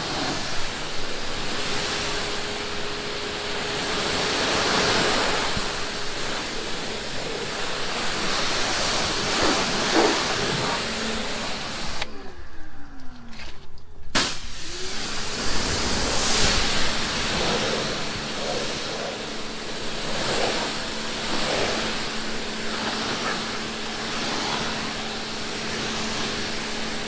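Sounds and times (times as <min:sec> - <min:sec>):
pressure washer spray hiss: 0:00.0 - 0:12.0, 0:14.1 - 0:27.0
low steady hum: 0:00.0 - 0:27.0.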